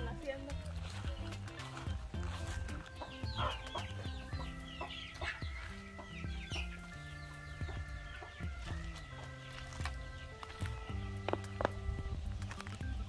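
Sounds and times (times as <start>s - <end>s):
background music with held notes: 0.0s - 13.0s
chickens clucking: 0.0s - 13.0s.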